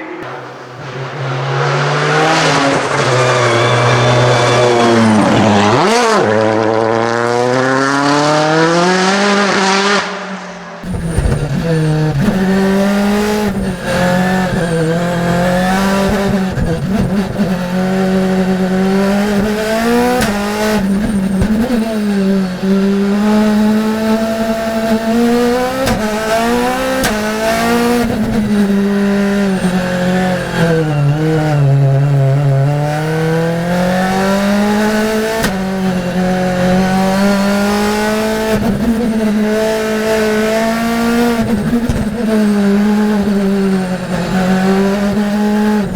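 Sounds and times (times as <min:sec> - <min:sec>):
race car engine accelerating: 0:00.0 - 0:45.9.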